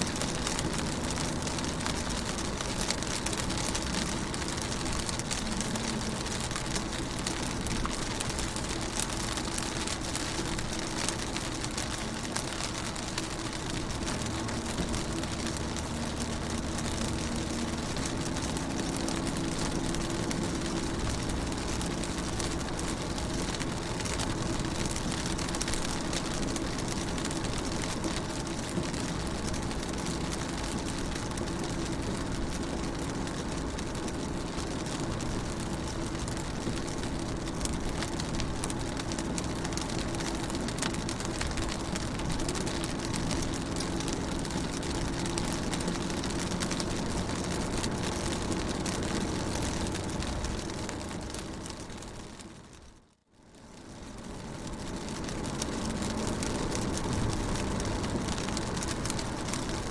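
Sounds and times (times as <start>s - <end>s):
rain pattering on car: 0.0s - 59.9s.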